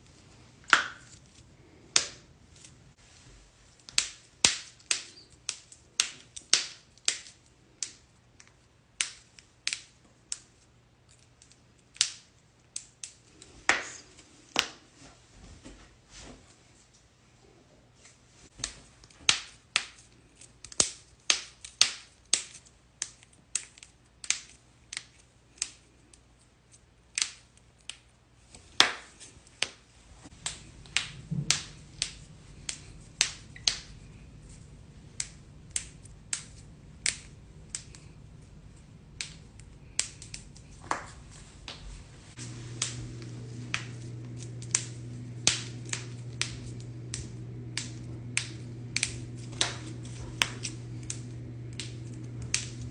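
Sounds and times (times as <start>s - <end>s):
low steady hum: 0.0s - 21.2s, 22.2s - 52.9s.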